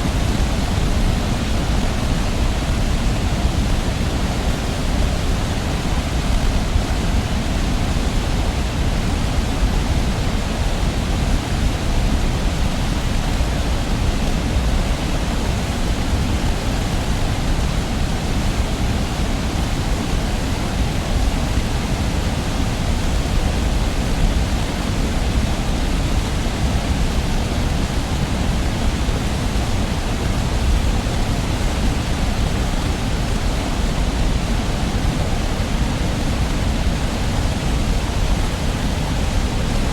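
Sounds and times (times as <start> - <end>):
distant waterfall rushing: 0.0 - 39.9.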